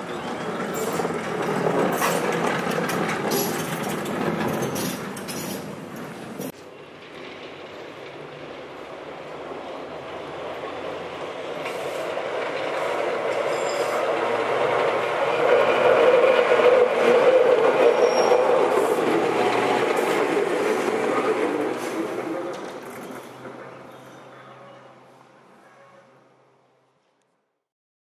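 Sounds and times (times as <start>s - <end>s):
tram wheels rumbling on rails: 0.0s - 26.5s.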